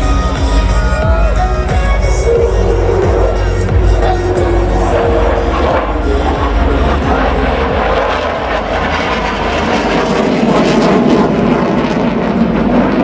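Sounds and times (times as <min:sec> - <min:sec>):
fighter jet engines roaring: 0:00.0 - 0:13.0.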